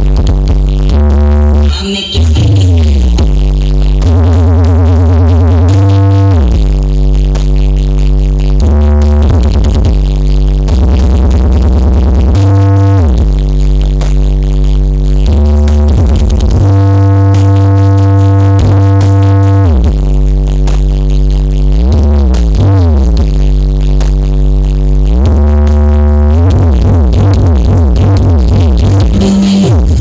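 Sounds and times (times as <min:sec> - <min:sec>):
loud electronic dance music: 0:00.0 - 0:30.0
sliding sub-bass notes: 0:00.0 - 0:30.0.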